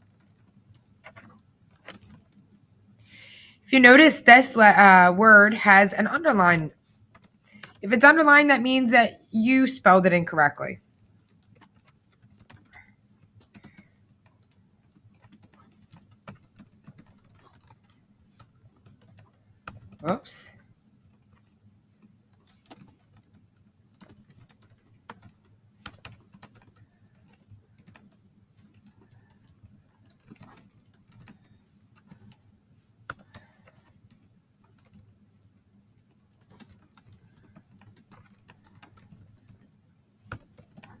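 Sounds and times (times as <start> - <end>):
keyboard typing: 0.0 - 2.4, 3.8 - 10.6, 11.2 - 20.4, 21.1 - 41.0.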